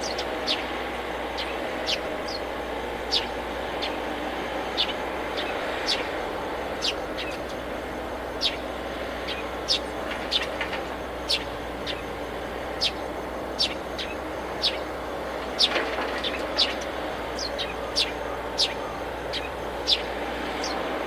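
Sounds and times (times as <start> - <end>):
small bird chirping: 0.0 - 4.1, 4.7 - 6.2, 6.8 - 7.6, 8.3 - 20.9.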